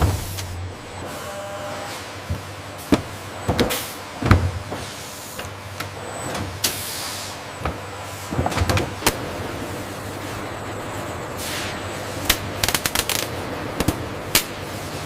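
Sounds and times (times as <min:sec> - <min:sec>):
production-line machinery humming: 0:00.0 - 0:15.0.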